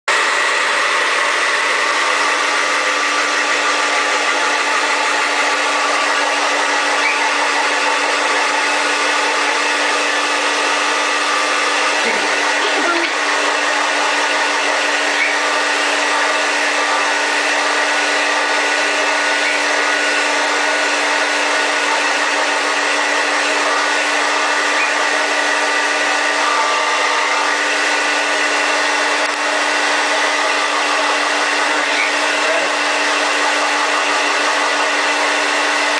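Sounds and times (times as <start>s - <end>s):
hair dryer running: 0.1s - 35.9s.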